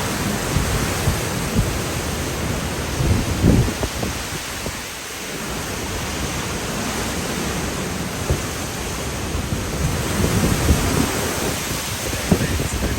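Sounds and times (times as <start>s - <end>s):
hurricane wind and rain: 0.0s - 12.9s
wind gusts buffeting microphone: 0.0s - 12.9s.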